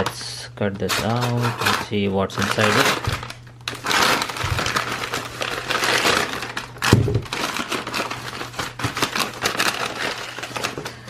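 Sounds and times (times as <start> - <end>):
plastic packaging crinkling: 0.8 - 11.0.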